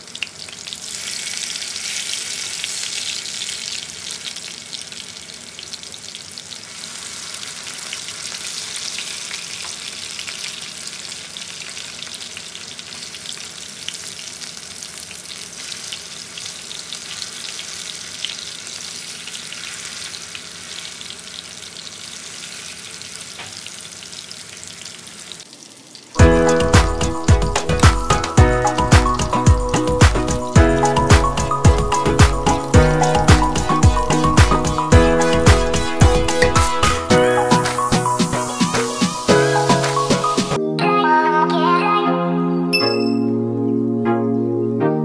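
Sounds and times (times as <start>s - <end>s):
sausage sizzling in frying pan: 0.0s - 40.4s.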